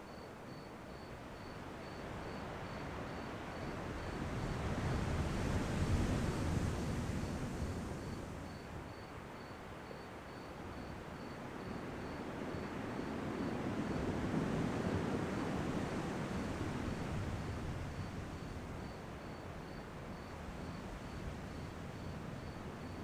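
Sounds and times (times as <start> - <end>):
insect chirping: 0.1 - 5.2, 6.3 - 14.1, 17.3 - 23.0
ocean waves washing in: 2.2 - 9.7, 11.1 - 23.0.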